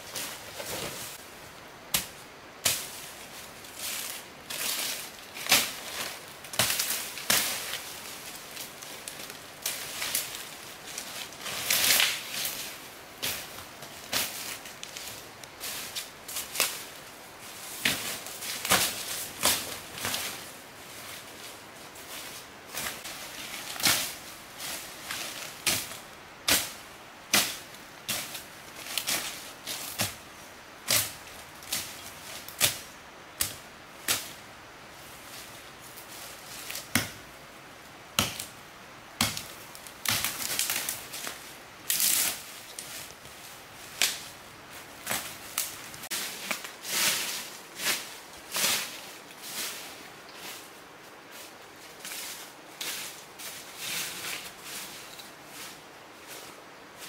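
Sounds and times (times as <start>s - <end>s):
dry leaves and twigs crunching: 1.9s - 37.5s, 39.2s - 57.0s.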